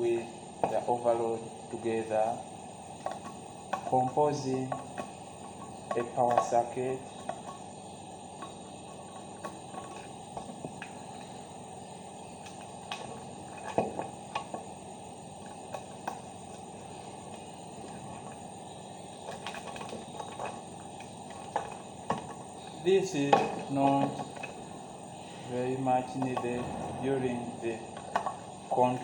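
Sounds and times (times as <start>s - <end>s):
steady low hiss: 0.0s - 29.0s.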